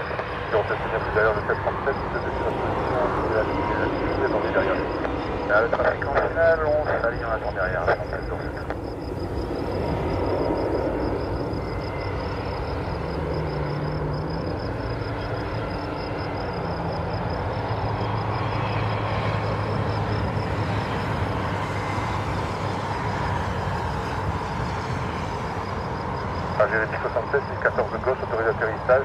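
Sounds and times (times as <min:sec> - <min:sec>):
distant jet engines: 0:00.0 - 0:29.0.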